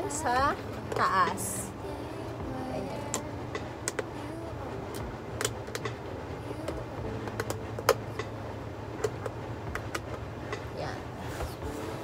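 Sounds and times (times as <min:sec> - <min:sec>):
air conditioner hum: 0:00.0 - 0:12.0.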